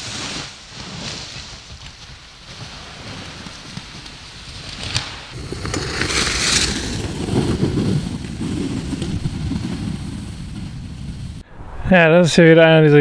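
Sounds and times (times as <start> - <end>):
bike tyres crunching leaves: 0.0 - 11.4.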